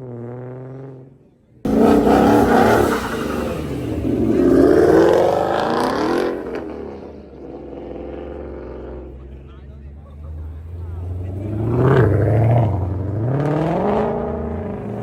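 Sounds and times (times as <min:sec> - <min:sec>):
car engine at full throttle: 0:01.7 - 0:15.0.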